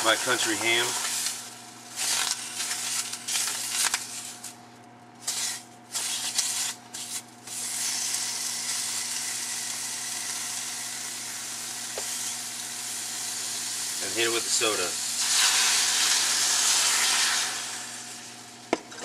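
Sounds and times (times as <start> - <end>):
ham sizzling in a frying pan: 0.0 - 4.5, 5.2 - 18.7.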